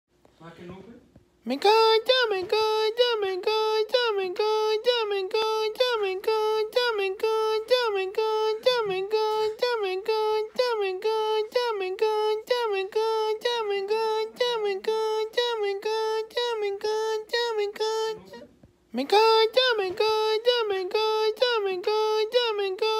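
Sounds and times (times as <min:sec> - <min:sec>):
high-pitched voice chanting: 0:01.5 - 0:22.9.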